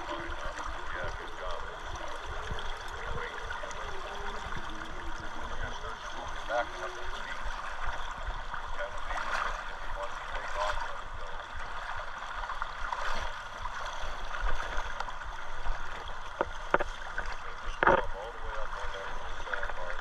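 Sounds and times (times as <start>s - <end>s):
river current rushing: 0.0s - 20.0s.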